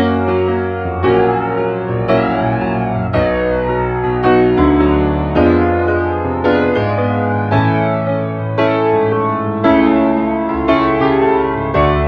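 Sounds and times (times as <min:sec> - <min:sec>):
piano playing held chords: 0:00.0 - 0:12.0.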